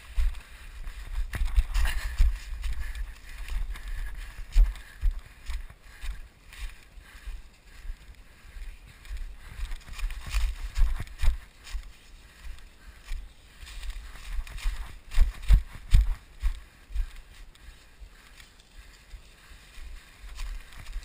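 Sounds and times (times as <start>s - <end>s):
footsteps through dry leaves: 0.0s - 21.0s.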